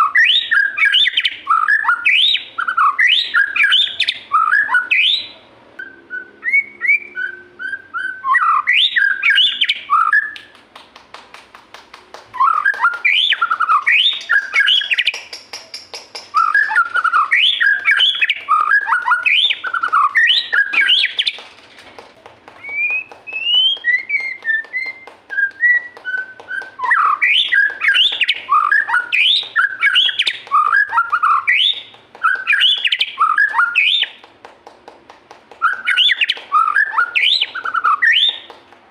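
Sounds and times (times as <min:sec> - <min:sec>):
songbird singing whistles and chirps: 0:00.0 - 0:10.6, 0:12.2 - 0:21.4, 0:22.6 - 0:34.2, 0:35.5 - 0:38.6.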